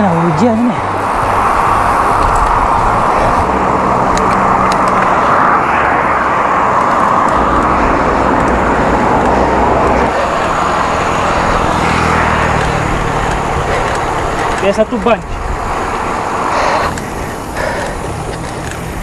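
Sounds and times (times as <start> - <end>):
bike tyre noise: 0.0 - 19.0
wind rush: 0.0 - 19.0.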